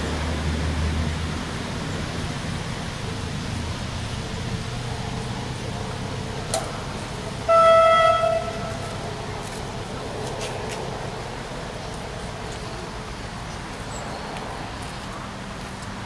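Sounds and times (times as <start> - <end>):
outdoor background noise: 0.0 - 16.0
train rumbling past: 0.0 - 16.0.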